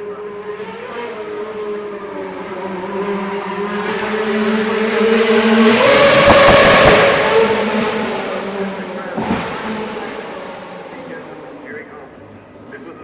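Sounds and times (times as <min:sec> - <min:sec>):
racing car engine approaching: 0:00.0 - 0:12.5.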